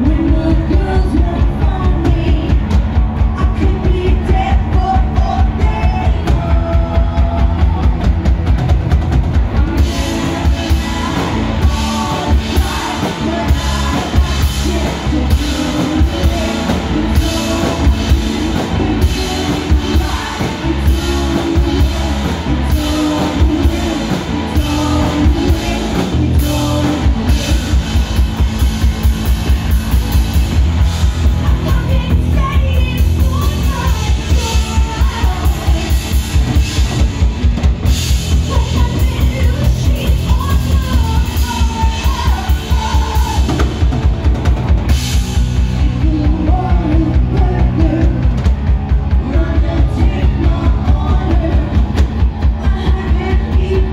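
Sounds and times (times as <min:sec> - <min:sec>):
person singing: 0:00.0 - 0:08.1, 0:09.7 - 0:28.7, 0:31.2 - 0:37.1, 0:38.3 - 0:43.9, 0:45.4 - 0:53.9
fast drum beat: 0:00.0 - 0:53.9
live rock band: 0:00.0 - 0:53.9.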